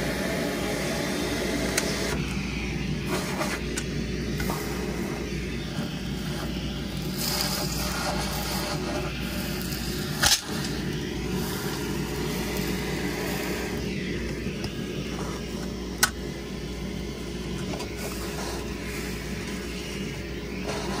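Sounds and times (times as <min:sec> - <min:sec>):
shop vacuum running: 0:00.0 - 0:21.0.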